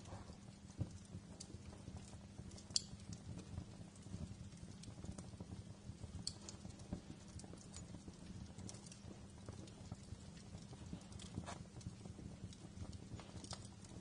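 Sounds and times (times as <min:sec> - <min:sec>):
low rumble of flames: 0:00.0 - 0:14.0
wood fire crackling: 0:00.0 - 0:14.0.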